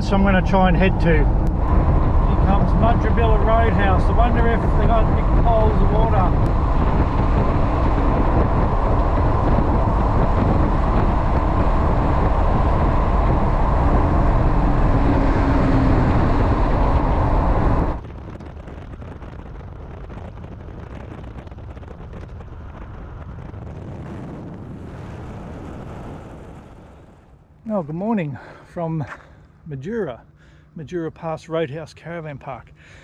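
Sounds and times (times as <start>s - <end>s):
road and wind noise inside van: 0.0s - 33.0s.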